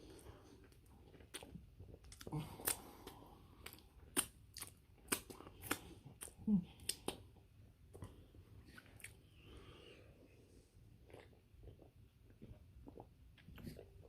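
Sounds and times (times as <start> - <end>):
person chewing wetly: 0.0 - 9.5, 10.9 - 14.0.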